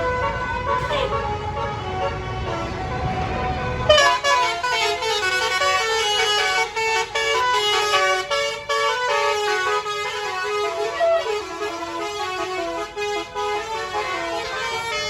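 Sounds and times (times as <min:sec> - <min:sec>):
bus horn playing a tune: 0:00.0 - 0:15.0.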